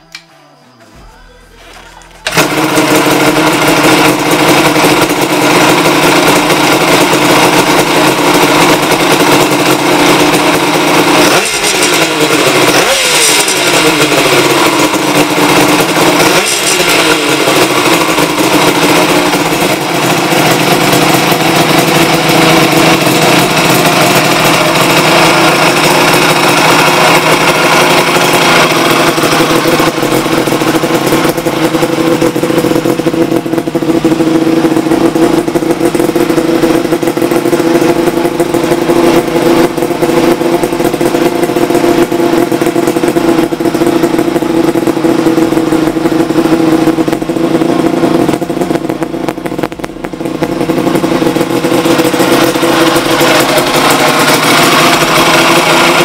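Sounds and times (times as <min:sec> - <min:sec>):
two-stroke engine idling: 0:00.9 - 0:56.0
engine revving: 0:02.2 - 0:56.0.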